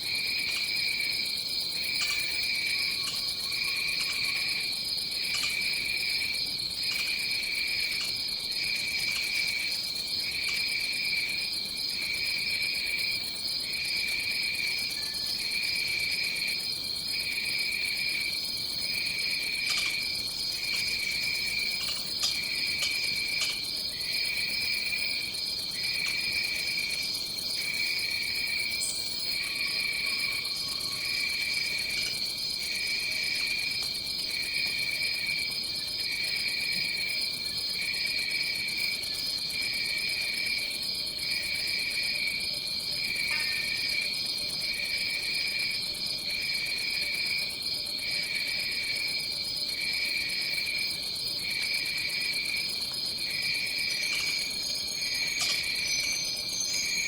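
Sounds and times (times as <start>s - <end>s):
high insect trill: 0.1s - 57.0s.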